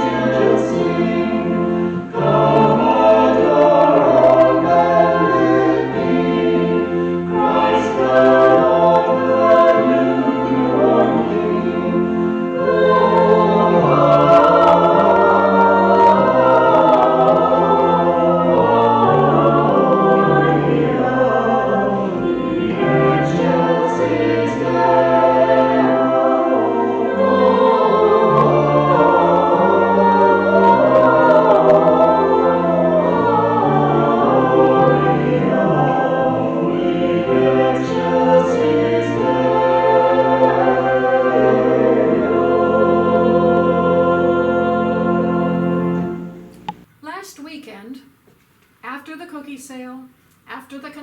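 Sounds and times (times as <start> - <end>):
choir singing a hymn: 0.0 - 46.8.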